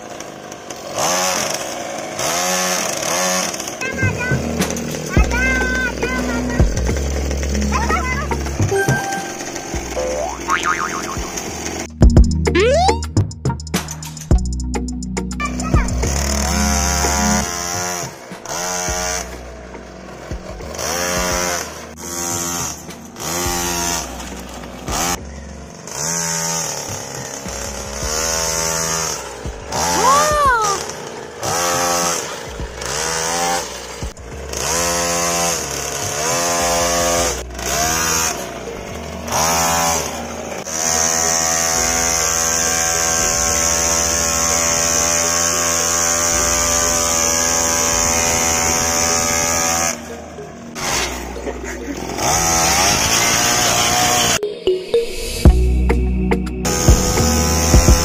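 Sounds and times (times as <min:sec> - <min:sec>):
small engine revving: 0:00.0 - 0:14.2, 0:15.4 - 0:54.4, 0:56.6 - 0:58.0.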